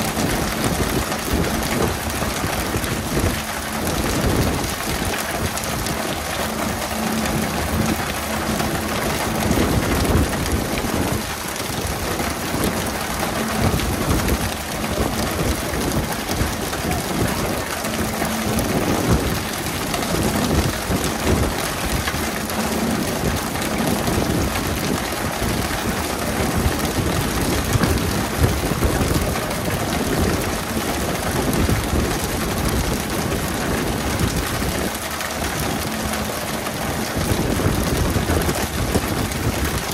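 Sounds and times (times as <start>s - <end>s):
low steady hum: 0.0s - 39.9s
water spray pattering on sea: 0.0s - 39.9s.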